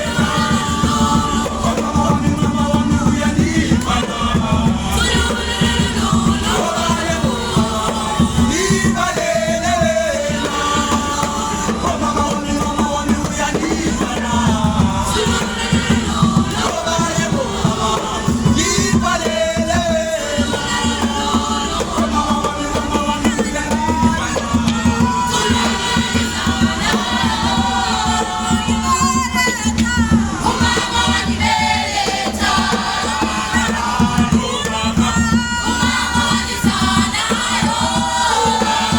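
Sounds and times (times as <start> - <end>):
children singing together: 0.0 - 28.9, 29.7 - 38.9
low drum beat: 0.0 - 38.9.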